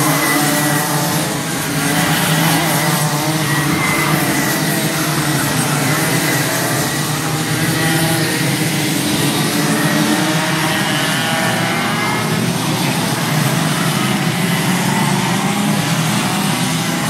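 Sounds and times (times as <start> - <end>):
racing kart engines: 0.0 - 17.0.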